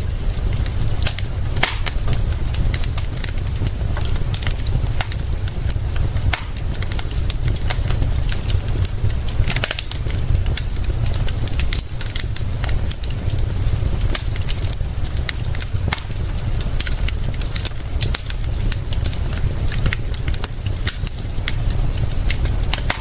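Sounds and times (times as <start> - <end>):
constant low rumble: 0.0 - 23.0
rain hissing: 0.0 - 23.0
wood fire crackling and popping: 0.0 - 23.0.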